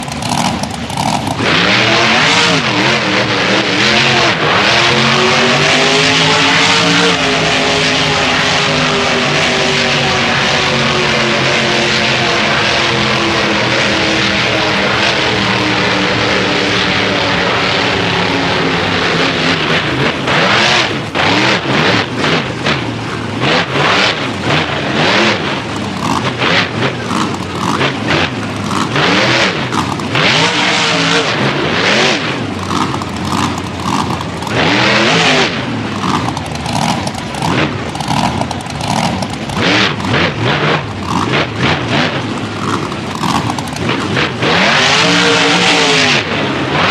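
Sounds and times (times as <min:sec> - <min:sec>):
monster truck engine revving: 0:00.0 - 0:46.9.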